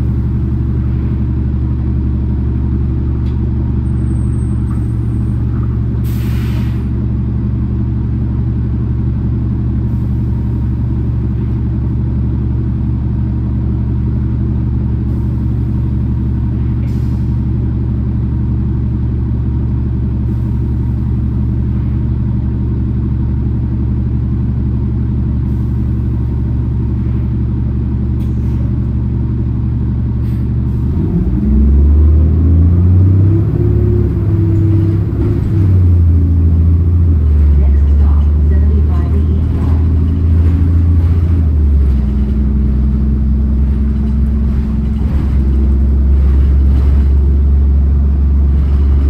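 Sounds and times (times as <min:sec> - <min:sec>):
bus engine running and revving: 0:00.0 - 0:49.0.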